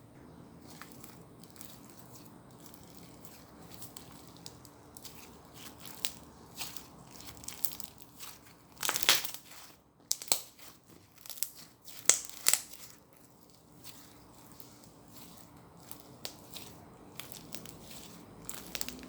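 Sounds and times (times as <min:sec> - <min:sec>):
slime being squished: 0:00.6 - 0:19.0.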